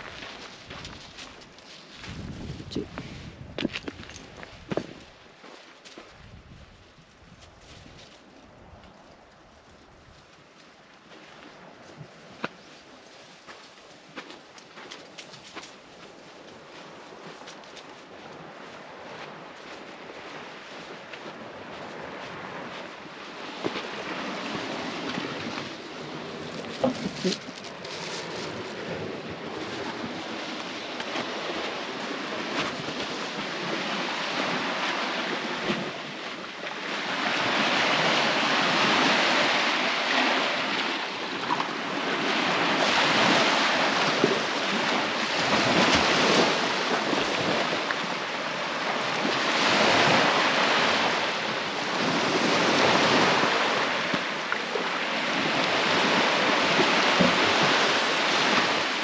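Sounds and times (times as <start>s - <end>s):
waves washing on beach: 4.2s - 59.0s.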